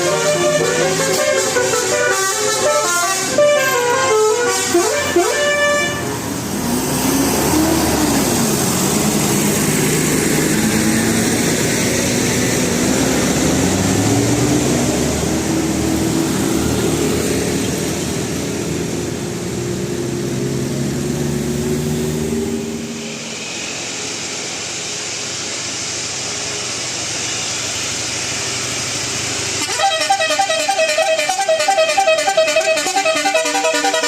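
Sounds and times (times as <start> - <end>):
bus engines running: 0.0 - 34.0
road noise of passing buses: 0.0 - 34.0.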